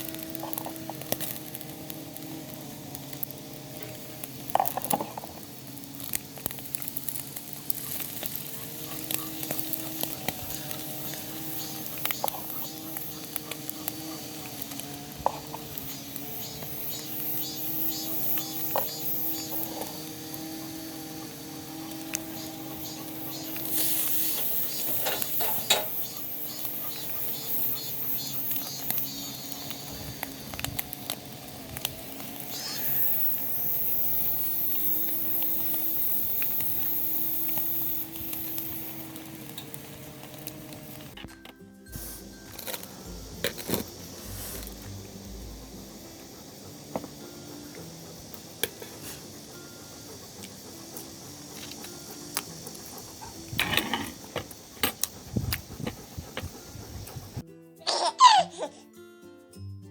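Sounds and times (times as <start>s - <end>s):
wood fire crackling: 0.0s - 57.5s
insects chirping: 0.0s - 59.4s.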